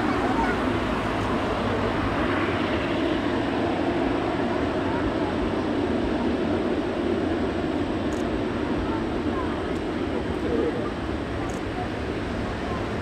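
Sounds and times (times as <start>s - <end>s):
jet engines rushing hum: 0.0s - 13.0s.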